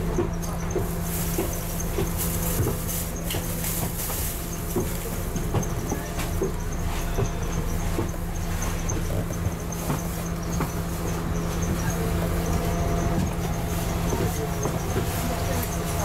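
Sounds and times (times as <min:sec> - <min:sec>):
bus diesel engine idling: 0:00.0 - 0:16.0.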